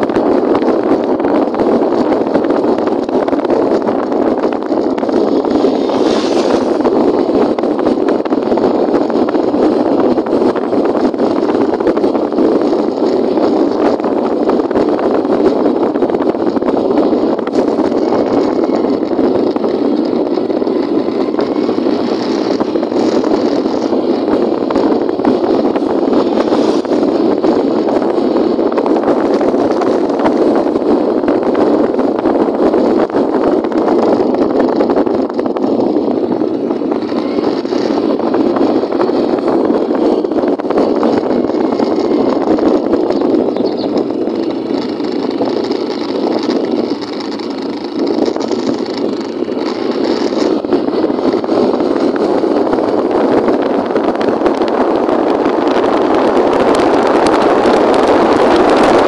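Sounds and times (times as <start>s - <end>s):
wind noise: 0.0s - 59.0s
motorcycle engine: 0.1s - 59.0s.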